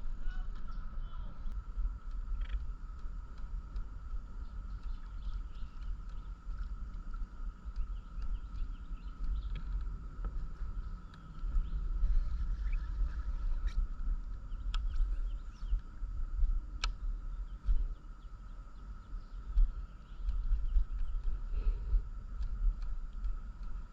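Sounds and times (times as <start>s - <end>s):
low fluctuating rumble: 0.0s - 23.9s
thin high hum: 0.0s - 23.9s
faint chirps and clicks: 0.2s - 23.9s.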